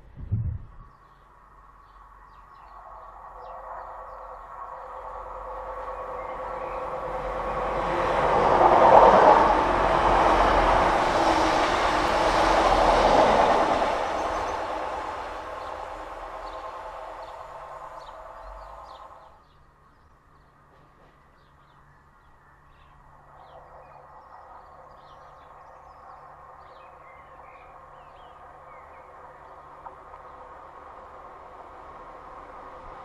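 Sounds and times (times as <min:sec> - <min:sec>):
faint approaching diesel train: 0:00.0 - 0:33.0
songbirds chirping: 0:00.8 - 0:08.6, 0:11.0 - 0:31.2
diesel train running: 0:02.7 - 0:19.9, 0:20.5 - 0:33.0.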